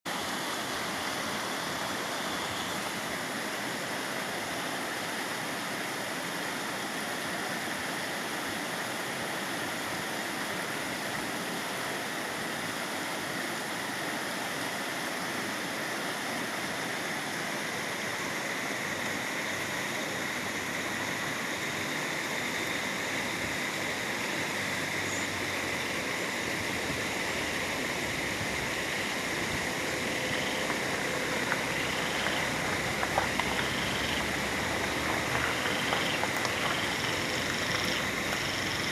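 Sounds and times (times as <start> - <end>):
running water rushing: 0.1 - 38.9.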